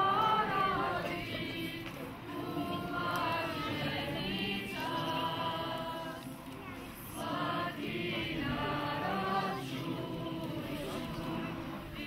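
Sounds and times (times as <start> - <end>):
choir singing sustained notes: 0.0 - 12.0.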